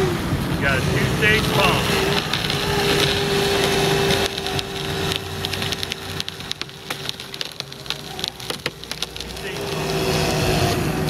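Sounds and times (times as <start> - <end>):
shattered windshield crackling: 0.6 - 11.0.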